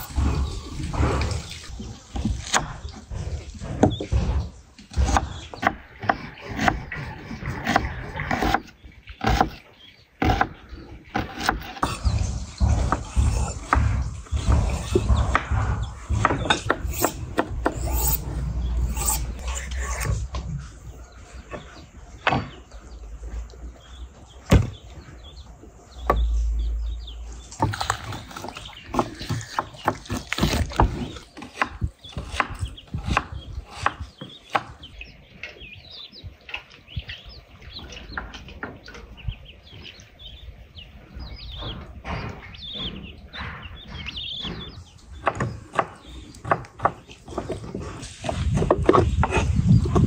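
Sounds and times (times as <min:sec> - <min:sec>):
ducklings peeping: 0:08.4 - 0:31.2, 0:32.0 - 0:50.0.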